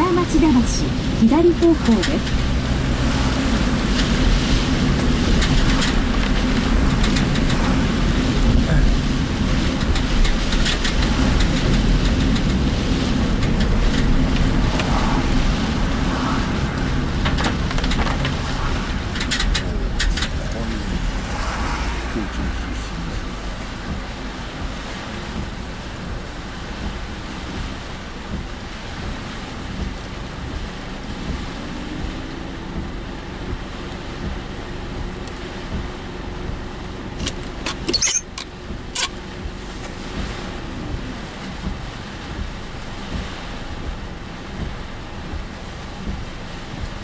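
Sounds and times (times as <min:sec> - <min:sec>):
rain tapping on car: 0:00.0 - 0:47.0
road and wind noise: 0:00.0 - 0:47.0.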